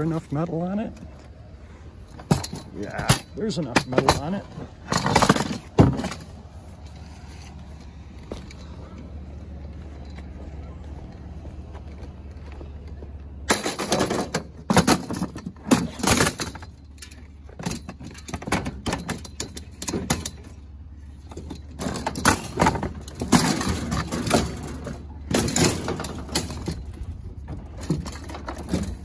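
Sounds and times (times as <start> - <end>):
scrap metal clanking and rattling: 0.0 - 12.6, 13.4 - 29.0
low steady hum: 0.0 - 29.0.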